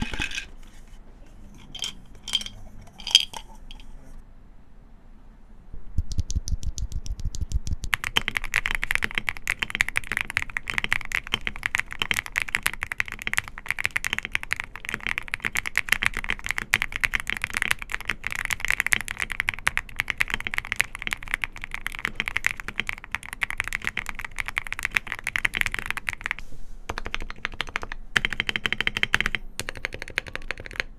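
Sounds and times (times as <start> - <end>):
fast typing on mechanical keyboard: 6.0 - 30.9.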